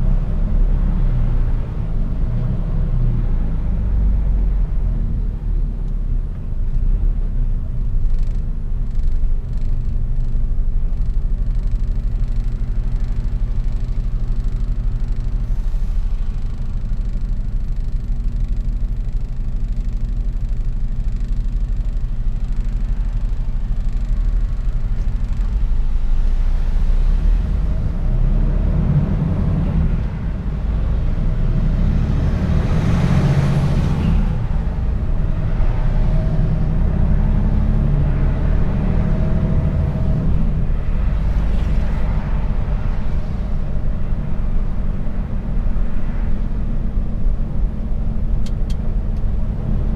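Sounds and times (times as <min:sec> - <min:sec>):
truck engine rumbling: 0:00.0 - 0:49.9.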